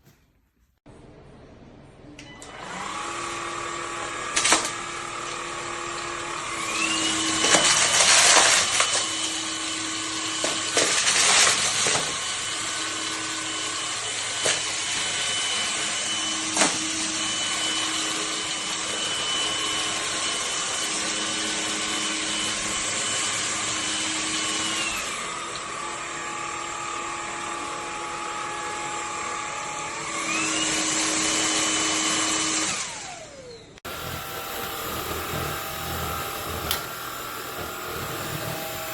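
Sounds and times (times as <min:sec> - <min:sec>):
vacuum cleaner motor whining: 0:02.2 - 0:38.9.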